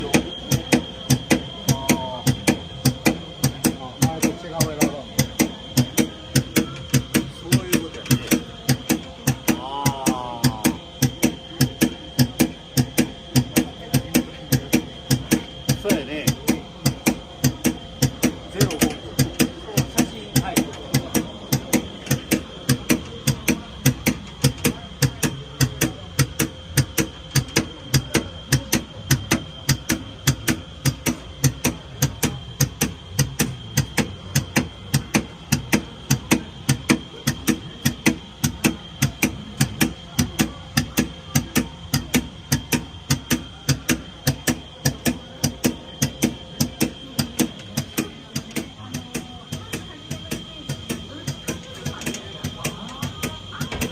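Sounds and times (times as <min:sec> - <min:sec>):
steady high whine: 0:00.0 - 0:53.9.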